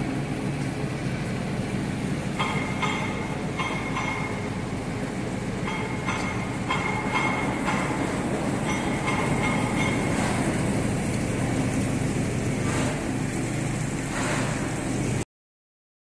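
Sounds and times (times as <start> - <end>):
machine mechanical hum: 0.0 - 15.3.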